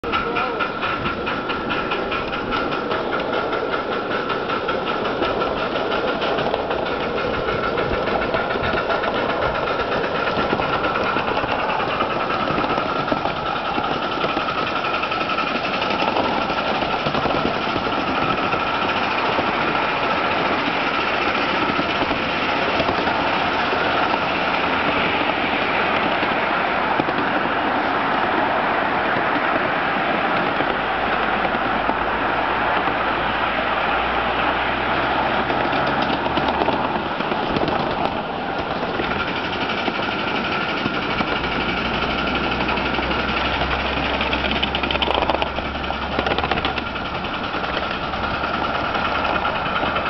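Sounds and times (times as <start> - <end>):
miniature steam locomotive running: 0.0 - 50.0
wheels rolling on rails: 0.0 - 50.0.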